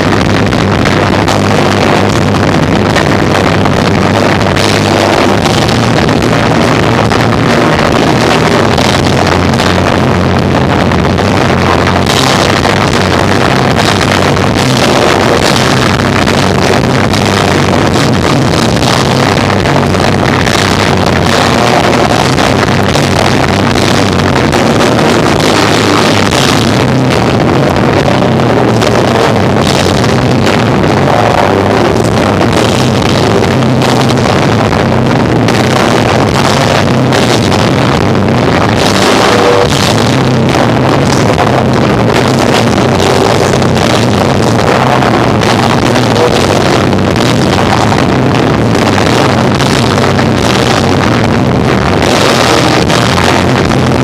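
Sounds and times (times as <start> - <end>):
distorted live rock band: 0.0 - 54.0.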